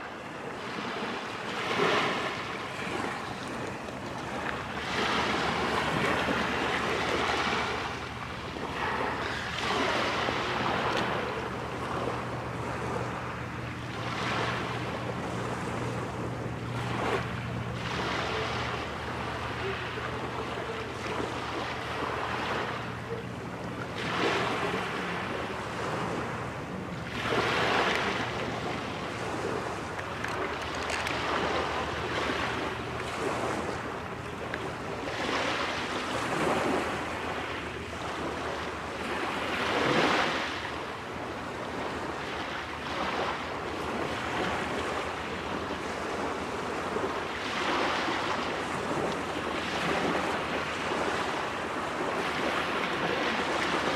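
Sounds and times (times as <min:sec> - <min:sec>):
small waves washing ashore: 0:00.0 - 0:53.9.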